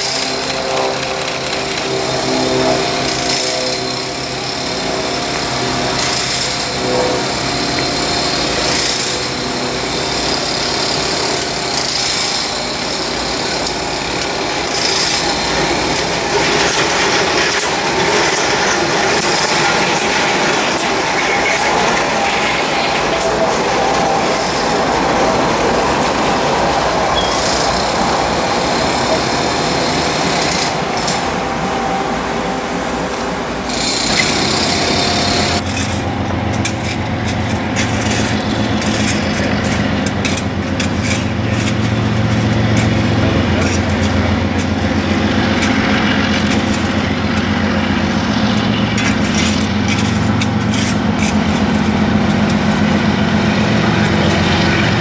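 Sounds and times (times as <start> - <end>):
diesel locomotives running: 0.0 - 55.0
train wheels rolling on rails: 0.0 - 55.0.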